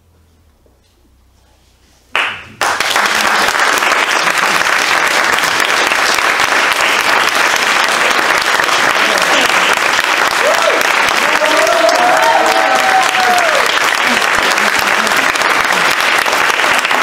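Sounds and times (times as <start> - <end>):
audience applause: 2.2 - 17.0.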